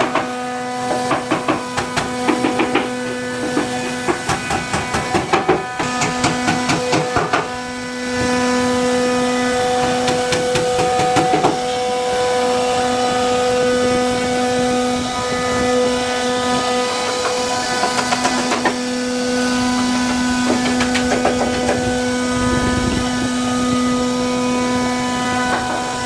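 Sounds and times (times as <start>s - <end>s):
cnc router whine cutting wood: 0.0s - 26.0s.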